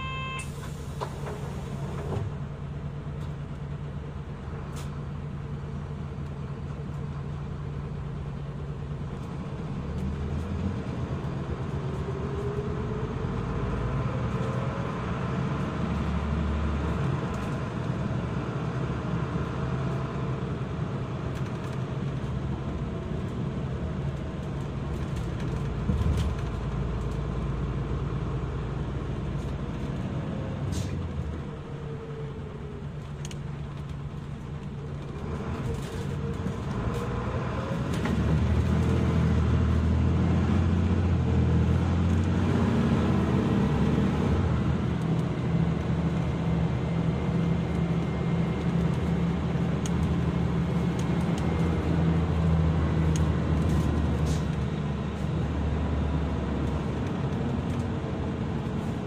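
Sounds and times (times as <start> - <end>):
bus engine whine: 0.0 - 59.0.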